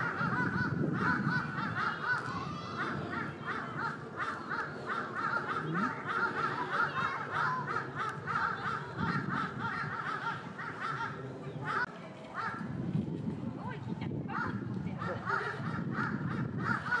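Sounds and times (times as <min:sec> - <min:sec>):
birds calling: 0:00.0 - 0:12.6, 0:14.4 - 0:17.0.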